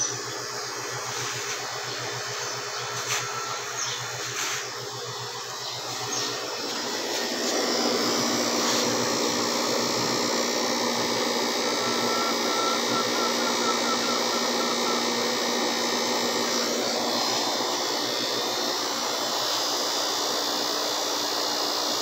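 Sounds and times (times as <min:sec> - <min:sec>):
refrigeration unit humming: 0:00.0 - 0:22.0.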